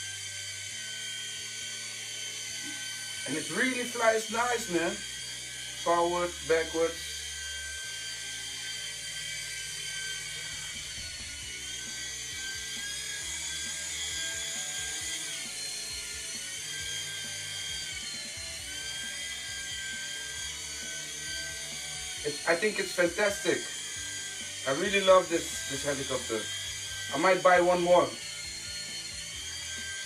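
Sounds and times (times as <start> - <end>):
toy helicopter rotors whining: 0.0 - 30.0.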